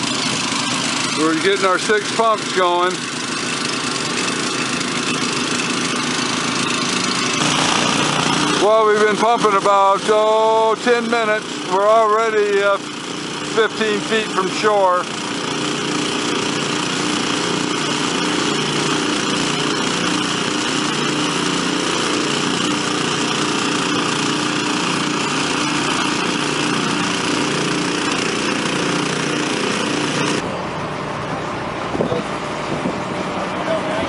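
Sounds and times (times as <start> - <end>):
engine-driven water pumps running: 0.0 - 34.0.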